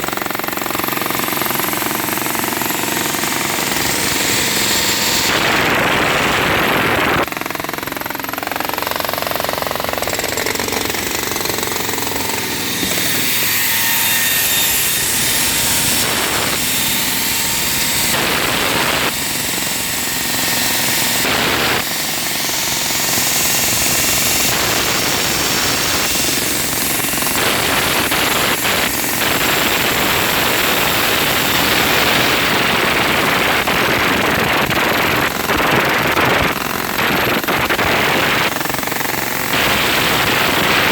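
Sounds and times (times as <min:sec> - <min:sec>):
jackhammer breaking concrete: 0:00.0 - 0:40.9.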